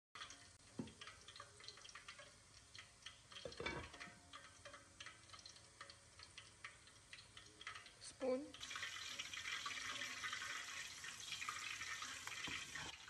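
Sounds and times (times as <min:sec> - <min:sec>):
broth simmering with ticks and pops: 0:00.2 - 0:13.0.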